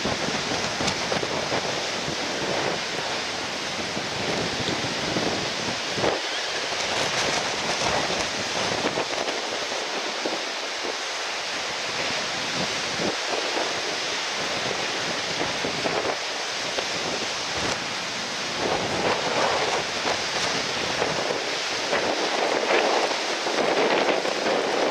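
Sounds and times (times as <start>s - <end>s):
strong wind: 0.0s - 24.9s
surf rushing: 0.0s - 24.9s
wind buffeting microphone: 0.0s - 24.9s.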